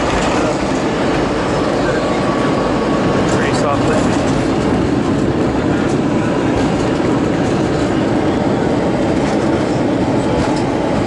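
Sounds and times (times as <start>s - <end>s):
loud roar of jet engines: 0.0s - 11.0s
wheels rumbling on runway: 0.0s - 11.0s.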